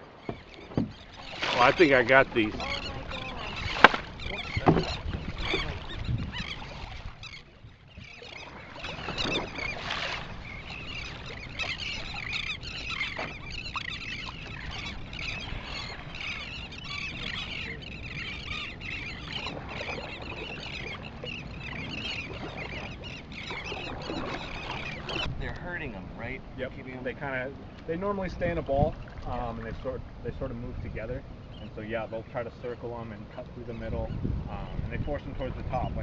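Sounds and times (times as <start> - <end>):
water splashing around kayak: 0.0 - 36.0.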